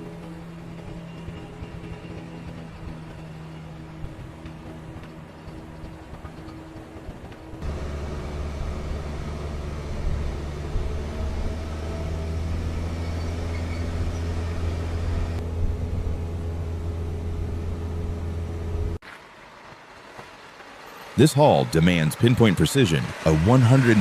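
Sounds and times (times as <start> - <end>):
heavy vehicle engine running: 0.0 - 19.0, 20.9 - 24.0.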